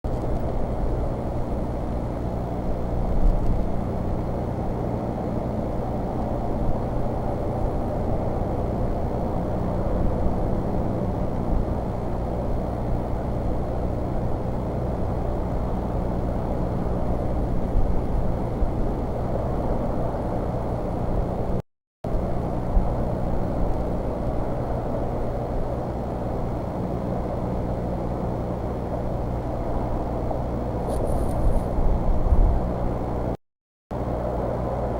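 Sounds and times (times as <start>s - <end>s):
low hum: 0.1s - 34.9s.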